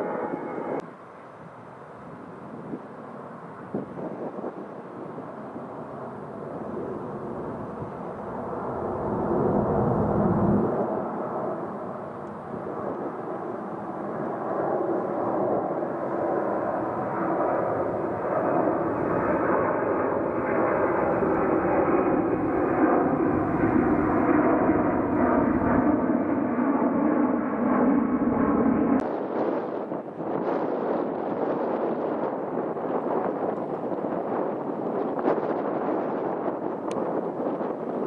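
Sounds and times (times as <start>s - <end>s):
jet engines at high thrust: 0.0s - 38.0s.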